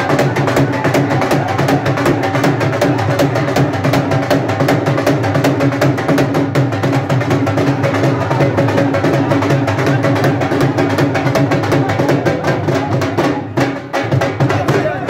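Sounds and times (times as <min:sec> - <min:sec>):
dhol drum rhythm: 0:00.0 - 0:15.0.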